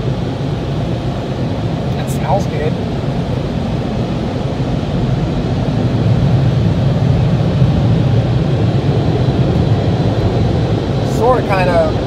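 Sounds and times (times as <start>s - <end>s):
air blower dryers blasting: 0.0s - 12.0s.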